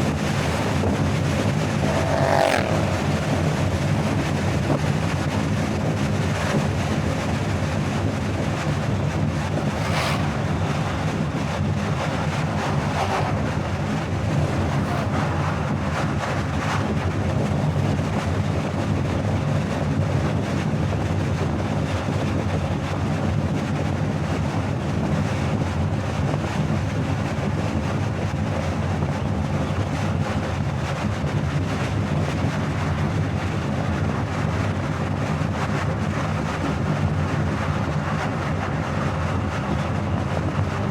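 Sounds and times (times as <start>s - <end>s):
tyre and engine drone: 0.0s - 40.9s
wind rush: 0.0s - 40.9s.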